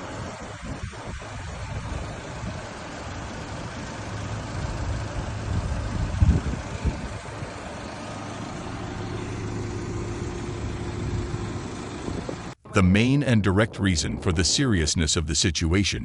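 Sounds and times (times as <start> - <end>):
engine humming: 0.0 - 15.2.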